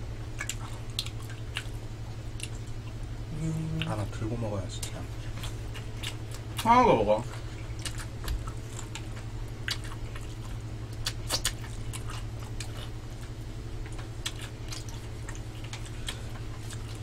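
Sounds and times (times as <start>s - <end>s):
steady low hum: 0.0s - 17.0s
chewing: 0.4s - 4.2s, 4.8s - 17.0s.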